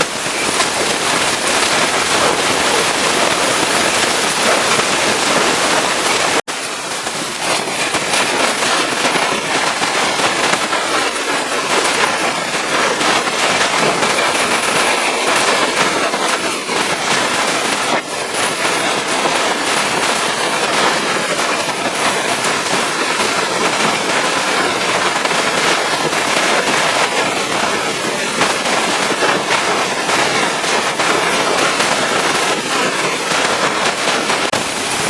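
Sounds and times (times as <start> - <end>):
pressure washer spraying: 0.0 - 35.0.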